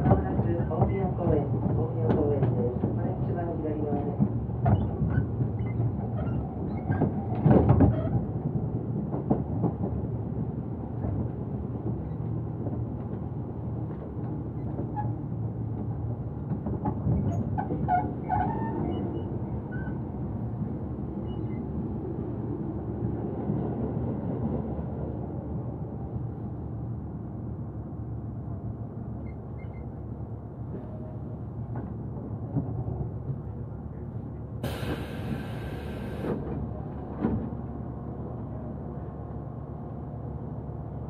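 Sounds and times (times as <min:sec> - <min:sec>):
train wheels rumbling on rails: 0:00.0 - 0:27.1, 0:28.5 - 0:41.0.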